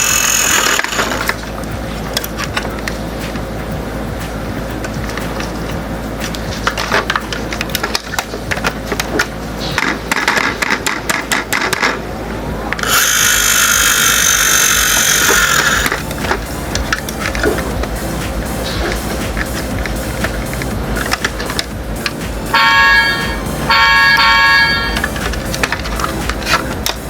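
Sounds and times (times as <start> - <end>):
loud steady hiss: 0.0 - 27.0.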